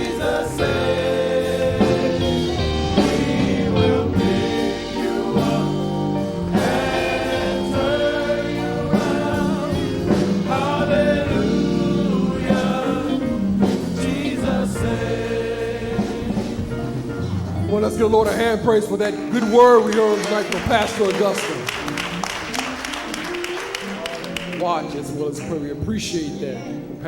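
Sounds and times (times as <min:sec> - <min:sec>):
choir singing gospel with instruments: 0:00.0 - 0:27.0.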